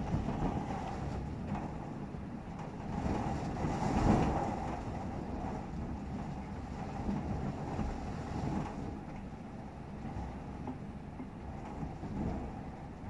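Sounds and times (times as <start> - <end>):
wind gusting against window: 0.0 - 13.0.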